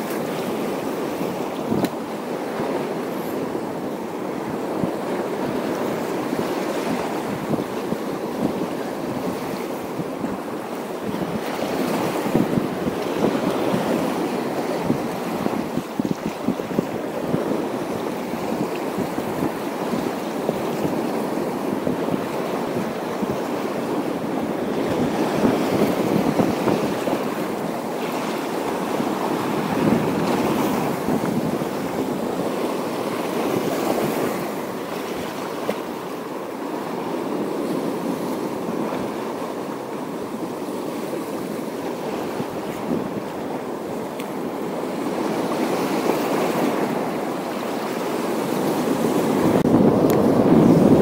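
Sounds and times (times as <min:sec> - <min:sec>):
sea waves on rocky shore: 0:00.0 - 0:51.0
wind on microphone: 0:00.0 - 0:51.0.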